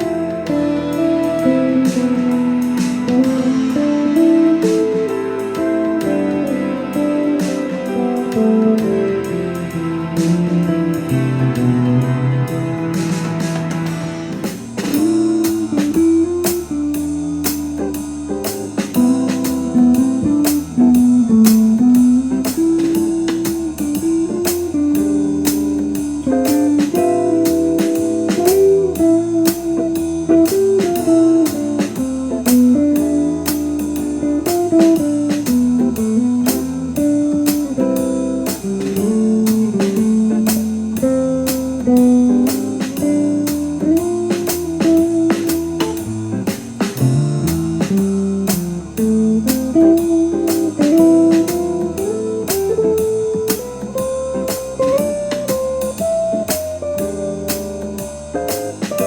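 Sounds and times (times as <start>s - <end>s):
blues guitar: 0.0s - 59.0s
steady beat: 0.0s - 59.0s.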